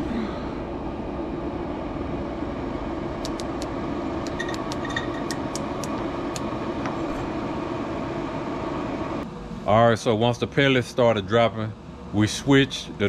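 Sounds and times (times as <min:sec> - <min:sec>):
pellet grill fan whirring: 0:00.0 - 0:13.0.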